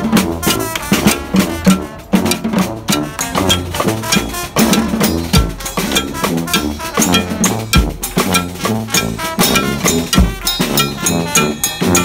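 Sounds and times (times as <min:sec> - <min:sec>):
bass drum with cymbal: 0:00.0 - 0:12.0
brass band marching: 0:00.0 - 0:12.0
cowbell: 0:00.0 - 0:12.0
snare drums: 0:00.0 - 0:12.0.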